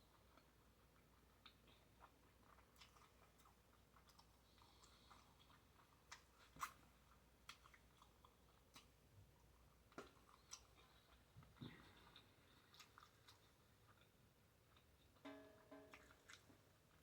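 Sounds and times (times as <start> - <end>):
faint chewing: 0.0 - 17.0.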